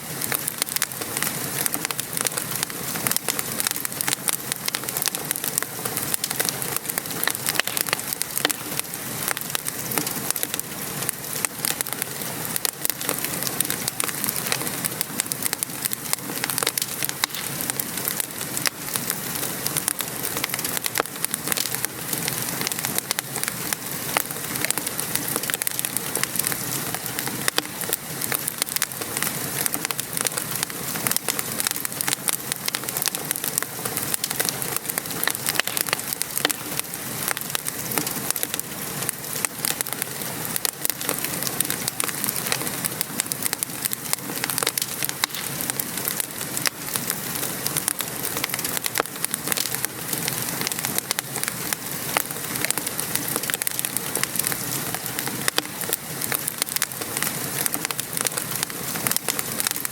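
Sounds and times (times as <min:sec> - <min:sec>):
rain patter: 0:00.0 - 0:59.9
wood fire crackling: 0:00.0 - 0:59.9.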